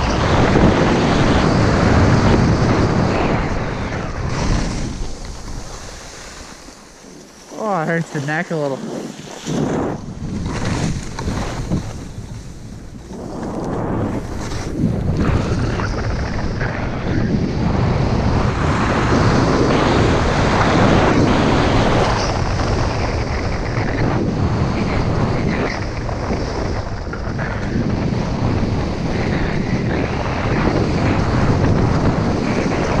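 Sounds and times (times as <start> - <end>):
skis scraping over snow: 0.0 - 33.0
wind rushing over microphone: 0.0 - 33.0.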